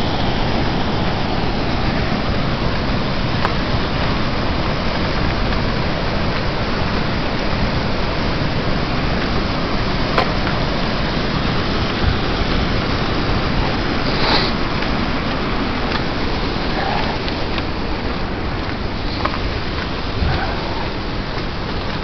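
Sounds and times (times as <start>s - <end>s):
water rushing over a dam: 0.0s - 22.0s.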